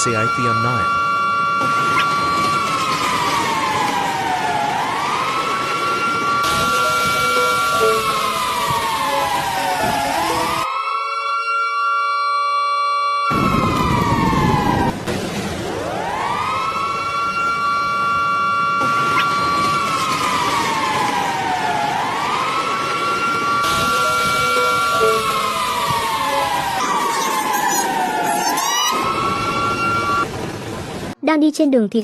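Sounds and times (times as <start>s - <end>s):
siren wailing: 0.0s - 30.3s.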